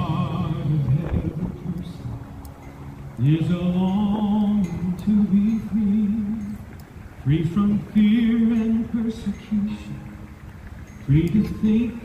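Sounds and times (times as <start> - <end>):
person singing with vibrato: 0.0 - 2.5, 3.1 - 10.2.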